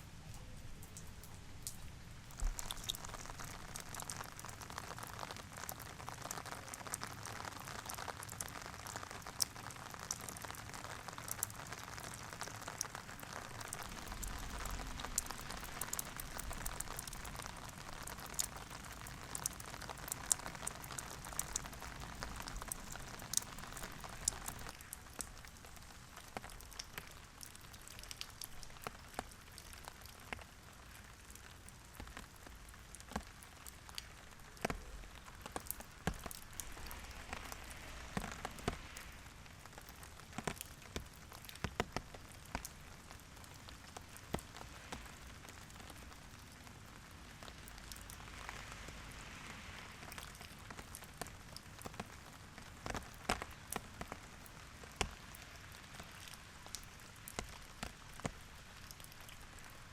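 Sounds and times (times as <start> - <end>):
steady rain with drops ticking: 0.0 - 59.9.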